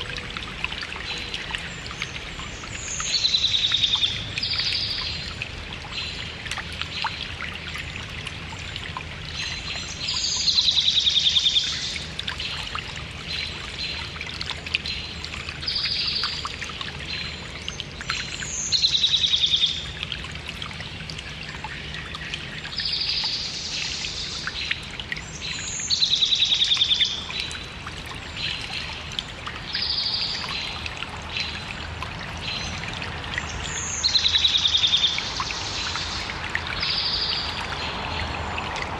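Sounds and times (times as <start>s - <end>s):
stream trickling and bubbling: 0.0s - 38.9s.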